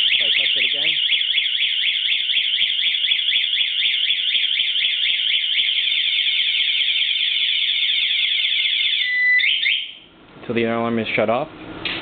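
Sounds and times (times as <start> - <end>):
motorcycle alarm warbling: 0.0 - 10.1.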